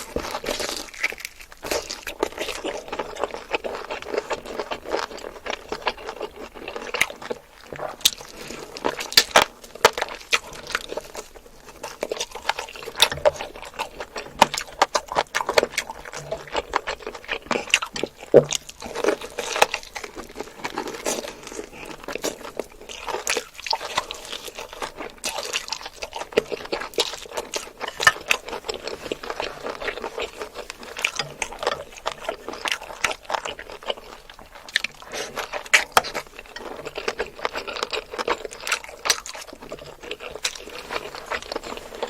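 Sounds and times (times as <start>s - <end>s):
crunchy bites and chewing: 0.0s - 42.0s
small clicks and crackles: 6.9s - 42.0s.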